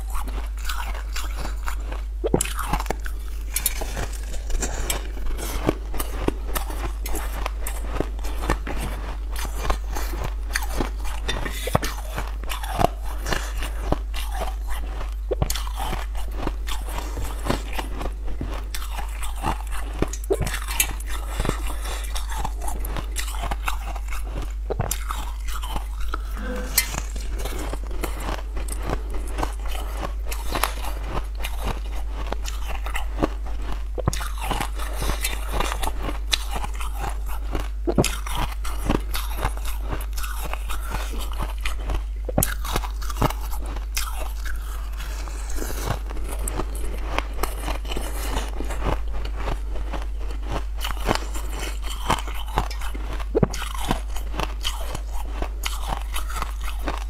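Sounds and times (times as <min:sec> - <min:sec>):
biting and crunching hard candy: 0:00.0 - 0:57.0
chewing: 0:00.0 - 0:57.0
constant low hum: 0:00.0 - 0:57.0.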